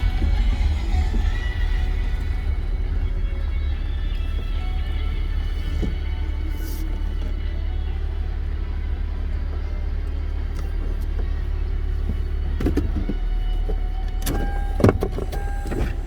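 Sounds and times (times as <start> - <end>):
car road rumble: 0.0 - 16.0.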